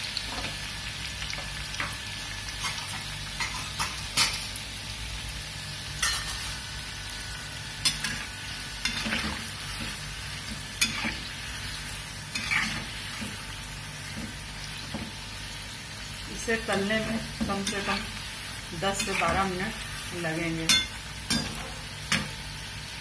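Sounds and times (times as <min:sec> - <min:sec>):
food deep-frying in oil: 0:00.0 - 0:23.0.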